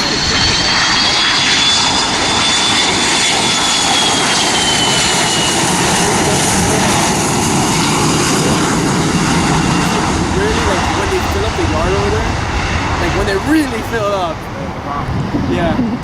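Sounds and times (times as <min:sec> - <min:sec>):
high jet whine: 0:00.0 - 0:16.0
jet engines roaring: 0:00.0 - 0:16.0.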